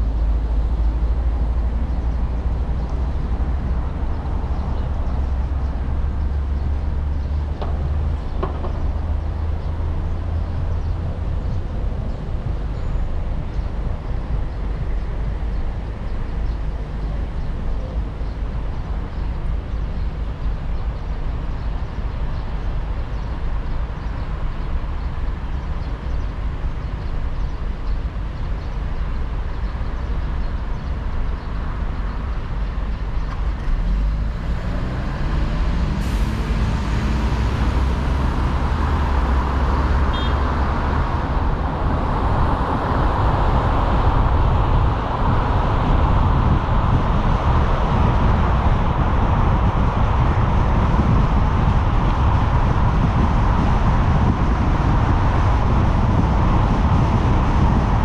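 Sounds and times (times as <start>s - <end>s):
low rumble of road traffic: 0.0s - 58.0s.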